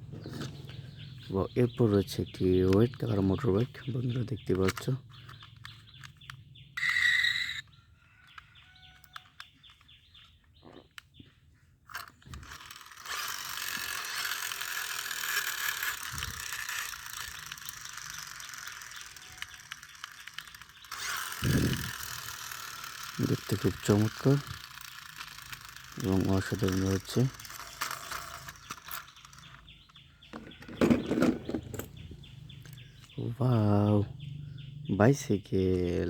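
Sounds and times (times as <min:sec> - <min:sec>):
toy gear mechanism whirring: 0:02.1 - 0:11.0, 0:11.8 - 0:33.7.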